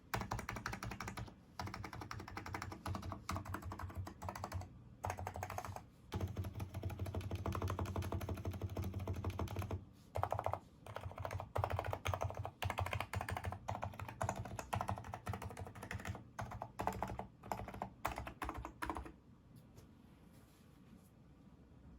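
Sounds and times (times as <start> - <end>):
typing on a keyboard: 0.1 - 19.2.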